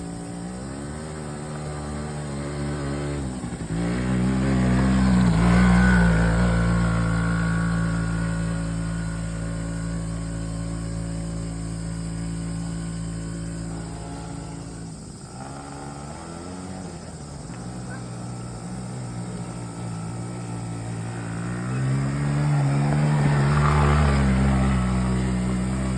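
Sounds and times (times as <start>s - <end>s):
buggy engine revving: 0.0s - 25.9s.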